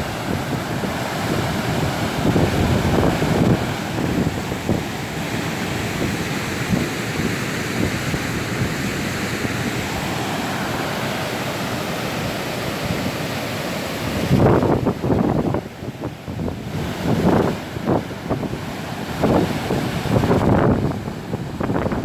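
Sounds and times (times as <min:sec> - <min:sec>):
wind buffeting microphone: 0:00.0 - 0:13.3, 0:13.9 - 0:22.0
floodwater rushing: 0:00.0 - 0:22.0.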